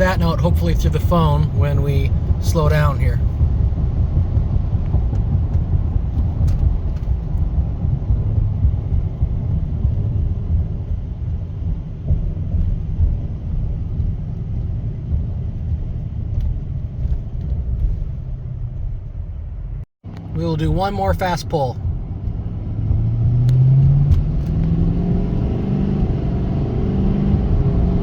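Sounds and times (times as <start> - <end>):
diesel engine rumble: 0.0 - 28.0.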